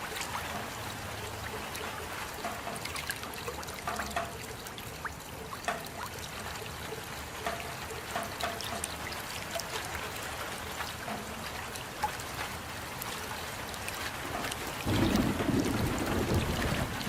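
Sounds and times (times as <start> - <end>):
drops ticking and plinking: 0.0 - 17.0
rain falling: 0.0 - 17.0
water trickling: 0.0 - 17.0.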